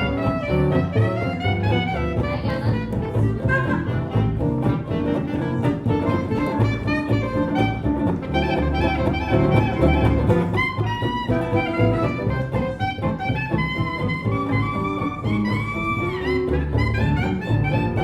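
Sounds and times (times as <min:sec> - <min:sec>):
bass line: 0:00.0 - 0:18.0
swing jazz band playing: 0:00.0 - 0:18.0.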